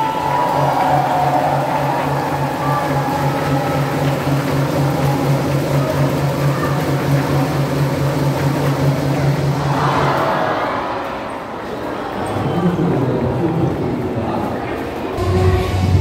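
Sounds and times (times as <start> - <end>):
crowd cheering: 0.0 - 15.7.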